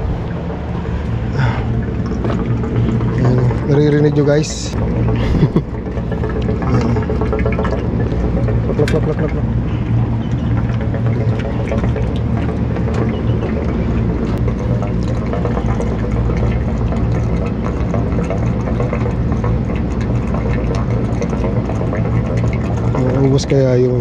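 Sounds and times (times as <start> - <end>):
liquid rushing and gurgling: 0.0 - 24.0
low machine hum: 0.0 - 24.0.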